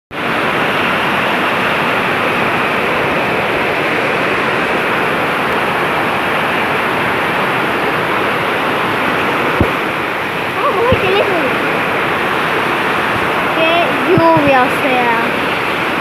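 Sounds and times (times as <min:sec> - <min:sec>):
heavy rain pouring: 0:00.1 - 0:16.0.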